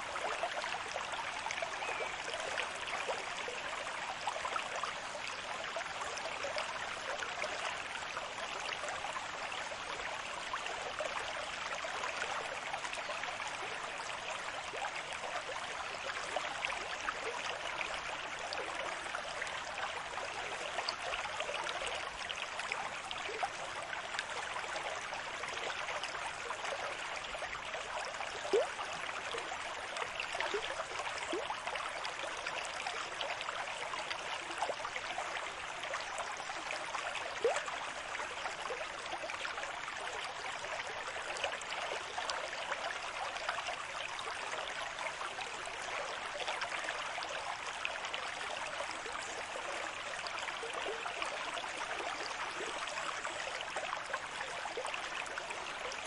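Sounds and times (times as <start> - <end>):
water plinks and gurgles: 0.0 - 56.0
water trickling and bubbling: 0.0 - 56.0.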